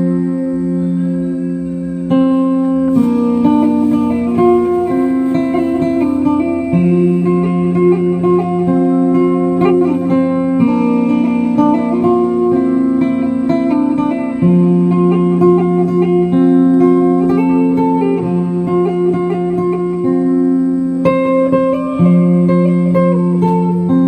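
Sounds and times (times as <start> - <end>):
guitar music: 0.0 - 24.0.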